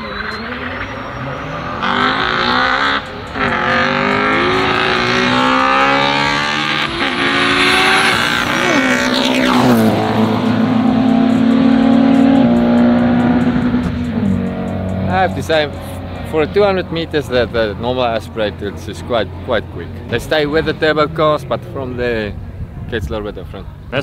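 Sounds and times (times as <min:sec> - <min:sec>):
drag racing cars accelerating: 0:00.0 - 0:22.6.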